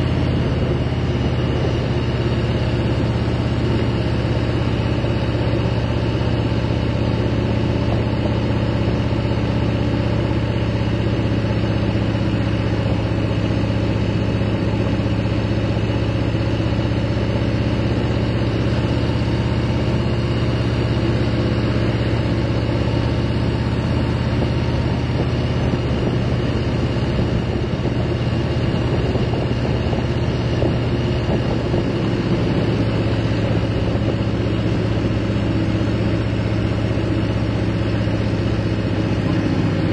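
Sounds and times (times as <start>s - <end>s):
motorcycle engine droning: 0.0s - 39.9s
road noise: 0.0s - 39.9s.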